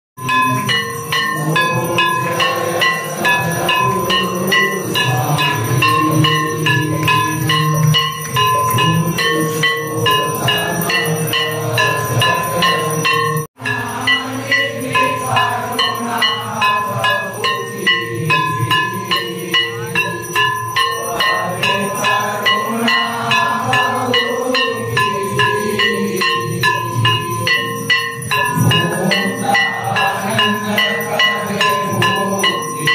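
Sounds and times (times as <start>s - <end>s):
bell strikes: 0.2s - 32.9s.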